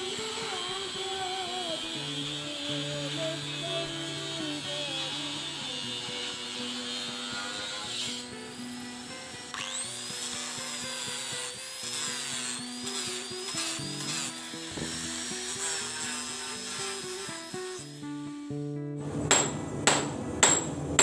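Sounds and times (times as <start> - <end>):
power drill whining: 0.0 - 18.3.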